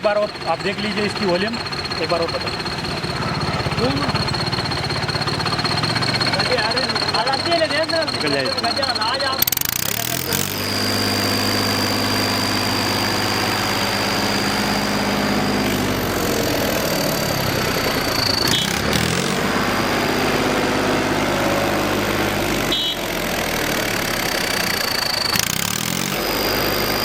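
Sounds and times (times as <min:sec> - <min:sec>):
tractor diesel engine revving: 0:00.0 - 0:27.0
high turbo whistle: 0:03.6 - 0:27.0.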